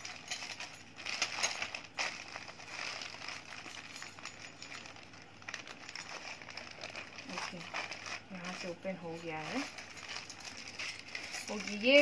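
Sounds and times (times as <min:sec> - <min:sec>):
wrapping crinkling and rustling: 0:00.0 - 0:12.0.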